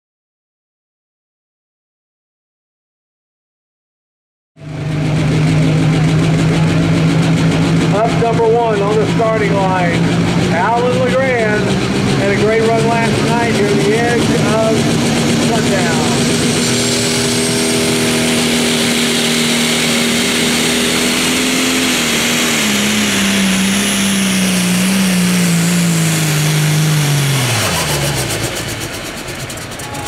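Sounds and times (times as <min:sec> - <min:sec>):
diesel tractor engine at full throttle: 0:04.6 - 0:30.0.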